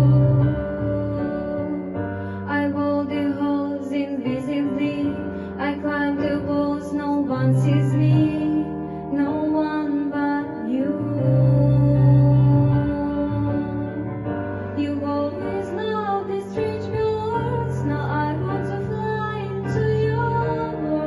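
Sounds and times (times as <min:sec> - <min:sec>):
girl singing a ballad: 0:00.0 - 0:21.0.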